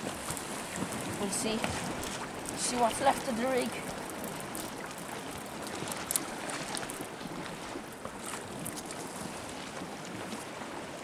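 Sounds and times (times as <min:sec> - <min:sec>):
sea water washing against rocks: 0:00.0 - 0:11.0
wind on microphone: 0:00.0 - 0:11.0.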